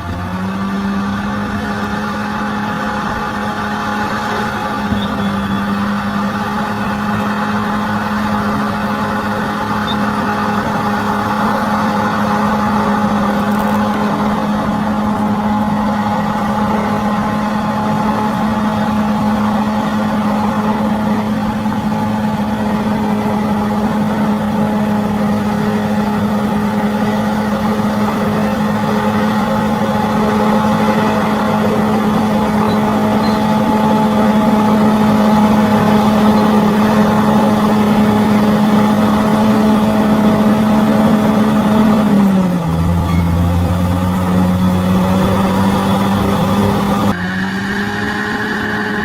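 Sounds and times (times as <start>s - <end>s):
diesel engine running steadily: 0.0s - 49.0s.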